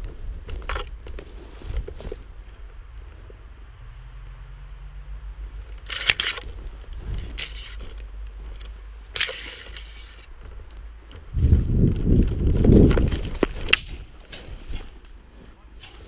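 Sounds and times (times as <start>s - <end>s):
low steady rumble: 0.0s - 14.2s
crunching crackling noises: 0.0s - 16.0s.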